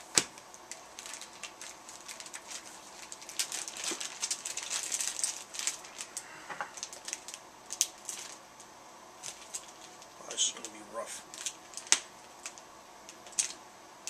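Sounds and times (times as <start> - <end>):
packaging crinkling and rustling: 0.0 - 8.4, 9.2 - 13.6.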